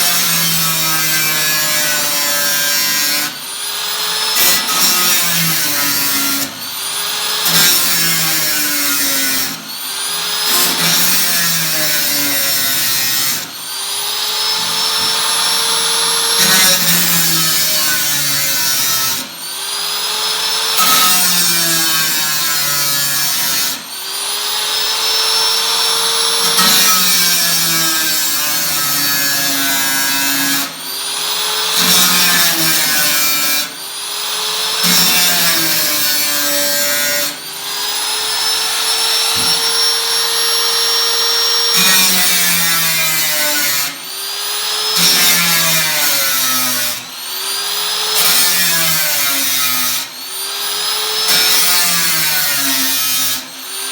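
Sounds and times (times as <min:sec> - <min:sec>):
power tool cutting thin steel: 0:00.0 - 0:53.9.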